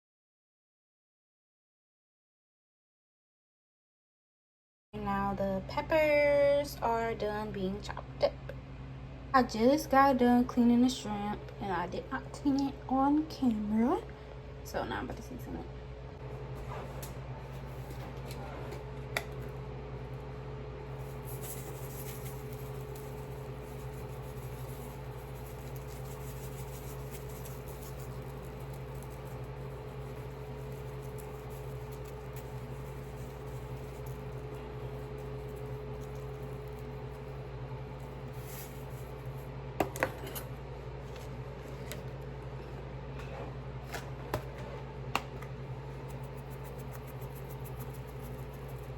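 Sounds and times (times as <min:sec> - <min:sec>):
kitchen background hum: 0:05.0 - 0:48.9.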